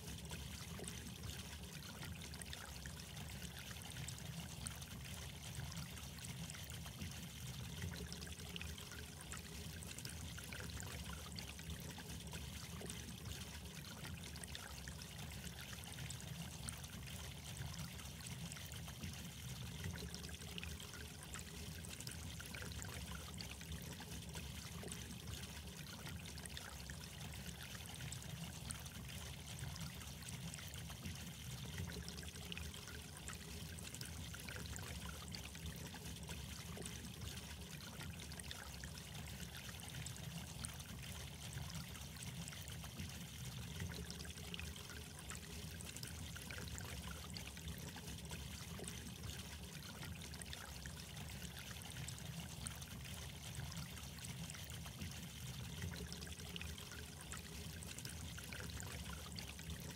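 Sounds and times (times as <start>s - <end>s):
trickling pouring water: 0.0s - 59.9s.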